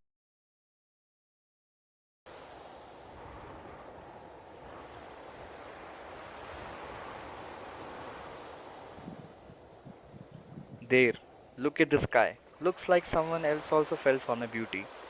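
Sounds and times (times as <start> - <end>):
crickets chirping: 2.3 - 15.0.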